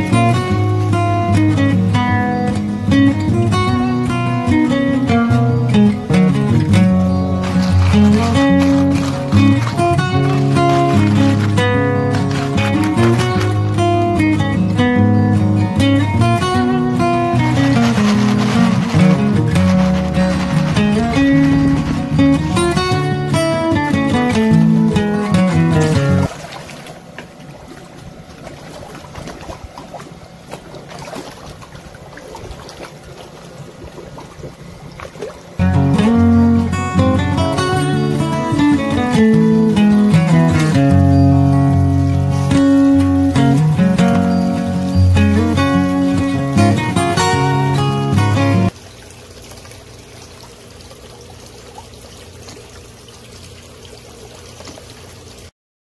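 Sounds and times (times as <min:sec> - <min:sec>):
water trickling and splashing: 0:00.0 - 0:55.5.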